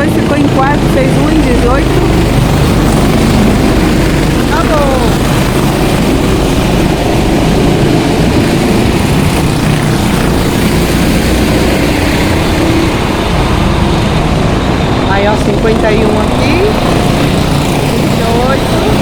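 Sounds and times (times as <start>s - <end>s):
go-kart engines running: 0.0s - 19.0s.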